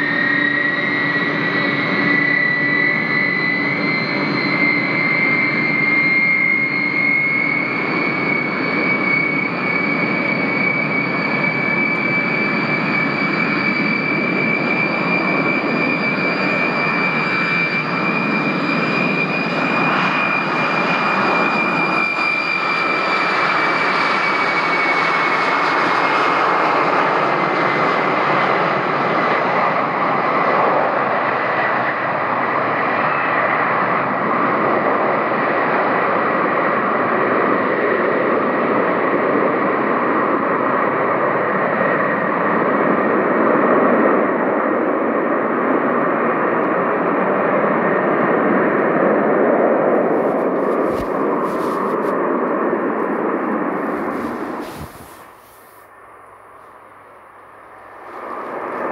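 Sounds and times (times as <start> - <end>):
jet engines whining and rushing: 0.0 - 58.9.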